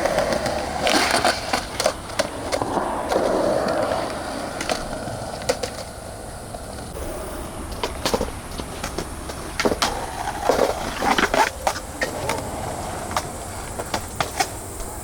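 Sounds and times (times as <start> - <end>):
cicadas droning: 0.0 - 15.0
skateboard clicks and knocks: 0.0 - 15.0
skateboards rolling on concrete: 0.0 - 15.0.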